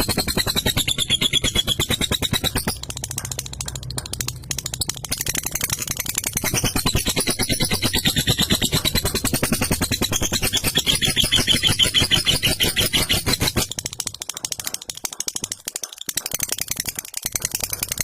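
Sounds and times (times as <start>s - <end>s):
lovebird chattering: 0.0s - 14.8s.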